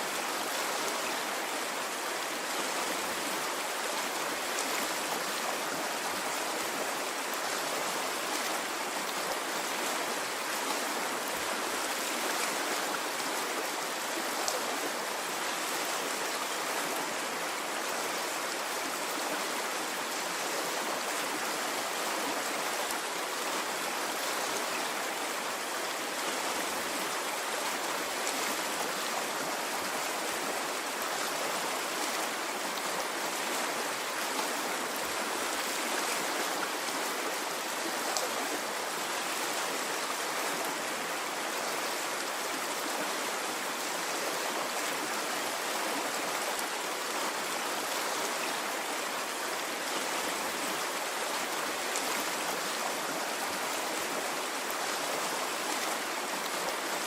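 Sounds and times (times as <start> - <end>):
stream of water babbling: 0.0 - 57.0.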